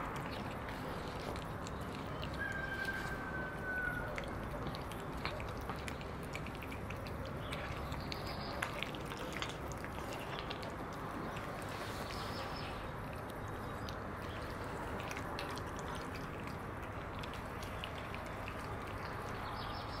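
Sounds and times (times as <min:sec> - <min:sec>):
cats chewing and lapping: 0:00.0 - 0:20.0
low background noise: 0:00.0 - 0:20.0.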